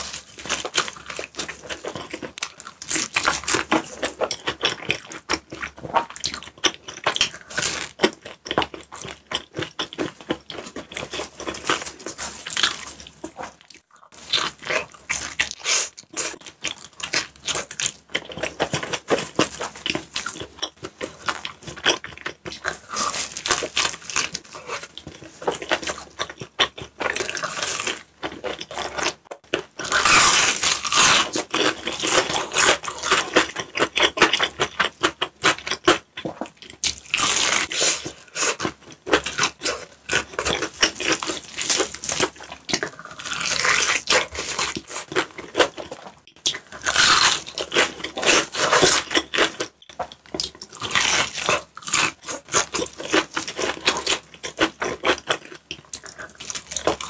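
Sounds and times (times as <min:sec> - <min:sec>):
crunchy eating and chewing: 0:00.0 - 0:57.0.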